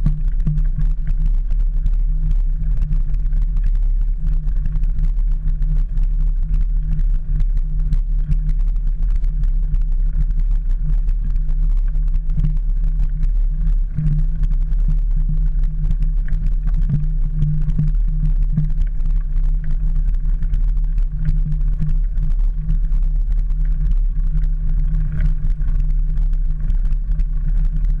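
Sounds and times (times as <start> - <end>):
low bicycle rumble: 0.0 - 28.0
small clicks and rattles: 0.0 - 28.0.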